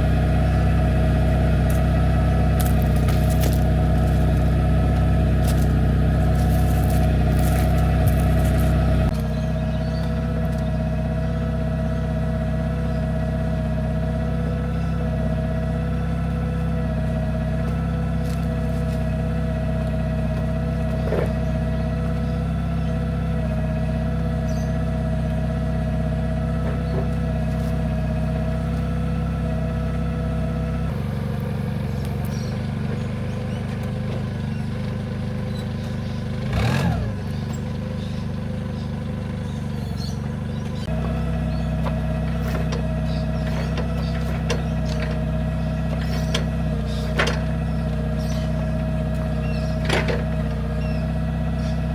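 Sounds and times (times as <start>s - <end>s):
farm machine engine running: 0.0s - 51.9s.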